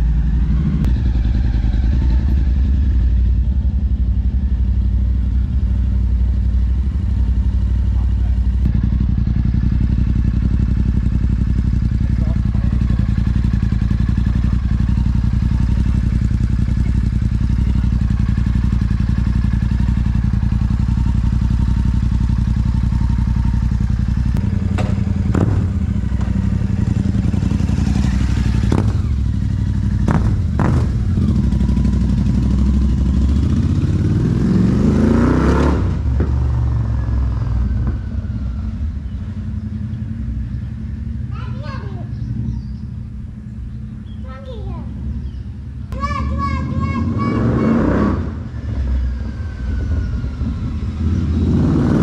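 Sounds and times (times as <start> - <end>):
motorcycle engine idling and revving: 0.0 - 52.0.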